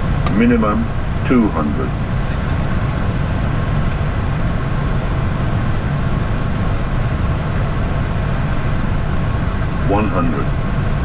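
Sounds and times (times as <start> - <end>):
airliner cockpit rumble: 0.0 - 11.0.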